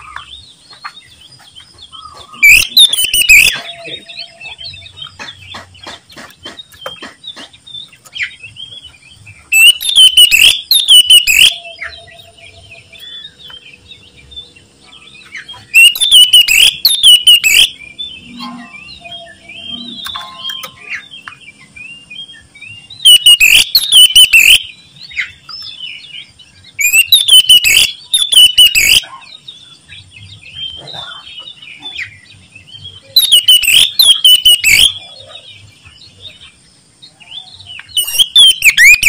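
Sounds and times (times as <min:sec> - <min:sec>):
quiet bird chirps: 0:00.0 - 0:39.0
bird singing loudly: 0:01.9 - 0:05.7, 0:06.4 - 0:29.6, 0:30.4 - 0:36.4, 0:37.2 - 0:39.0.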